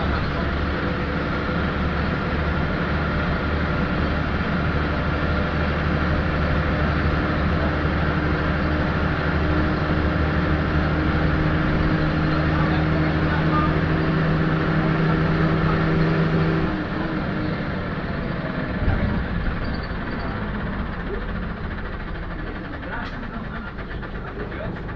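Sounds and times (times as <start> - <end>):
bus diesel engine drone: 0.0 - 24.9.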